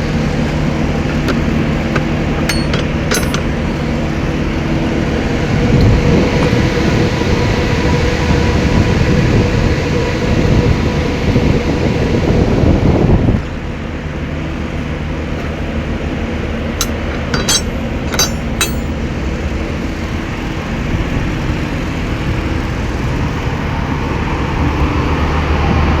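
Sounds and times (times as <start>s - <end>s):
refrigeration unit running: 0.0s - 23.9s.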